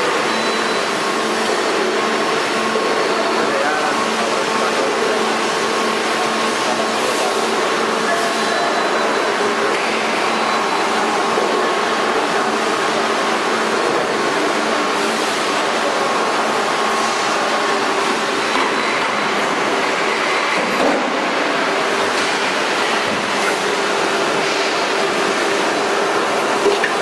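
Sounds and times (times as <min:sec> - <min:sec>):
injection moulding machine running: 0:00.0 - 0:27.0.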